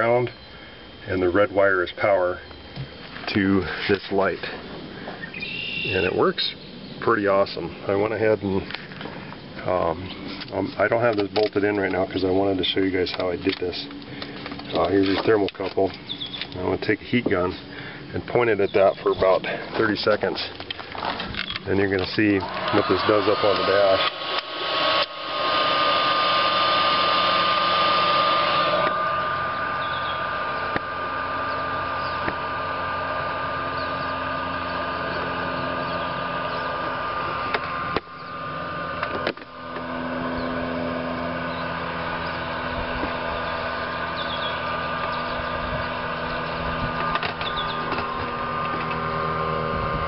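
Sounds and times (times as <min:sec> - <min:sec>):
heat gun blower whine: 0:00.0 - 0:50.0.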